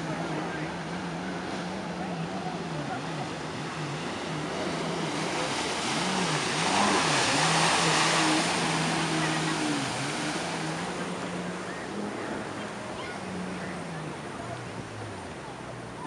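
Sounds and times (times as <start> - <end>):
jet ski engines revving: 0.0 - 16.0
water rushing and spraying: 0.0 - 16.0.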